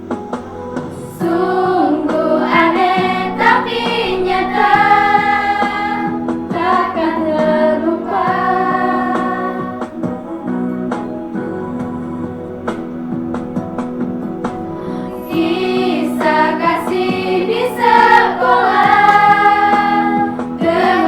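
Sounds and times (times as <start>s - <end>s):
children's choir singing: 0.0s - 21.0s
guitar: 0.0s - 21.0s.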